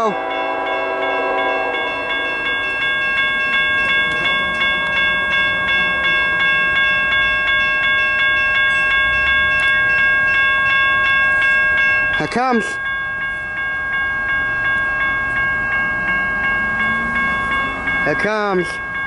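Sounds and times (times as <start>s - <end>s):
crossing bell ringing: 0.0s - 19.0s.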